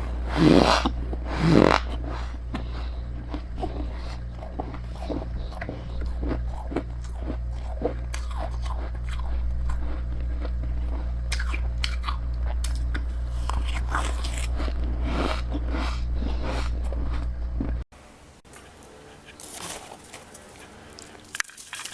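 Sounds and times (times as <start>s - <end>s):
chewing crunchy ice: 0.0s - 17.8s, 18.5s - 21.9s
constant low hum: 0.0s - 21.9s.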